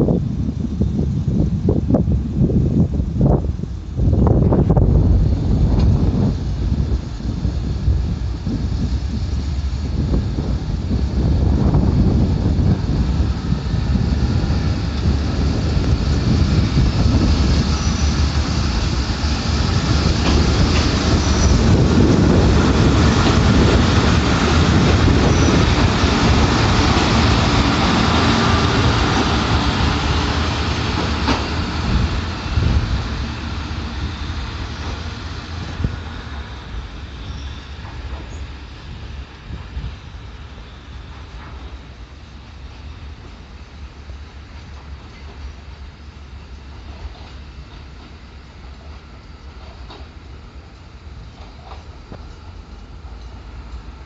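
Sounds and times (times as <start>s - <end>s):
diesel train engine: 0.0s - 54.0s
train wheels rumbling on rails: 0.0s - 54.0s.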